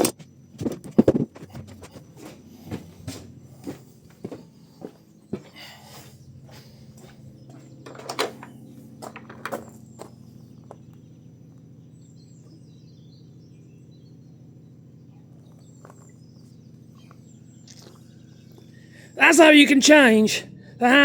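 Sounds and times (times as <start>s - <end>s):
faint birds chirping: 0.0s - 21.0s
steady low hum: 0.0s - 21.0s.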